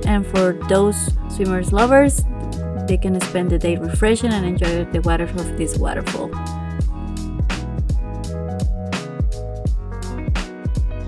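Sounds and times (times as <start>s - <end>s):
deep kick drums: 0.0s - 0.4s, 1.1s - 6.1s, 6.8s - 11.0s
held bass: 0.0s - 11.0s.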